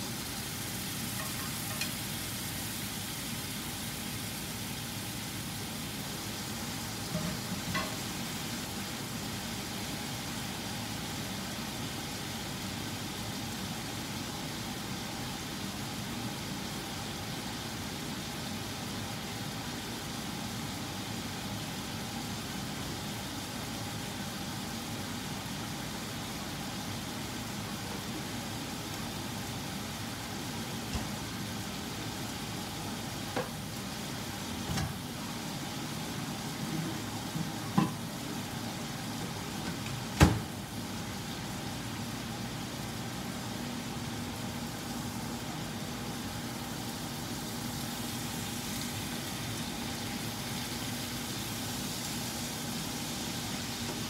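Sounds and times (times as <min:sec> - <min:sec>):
steak sizzling in a frying pan: 0:00.0 - 0:54.0.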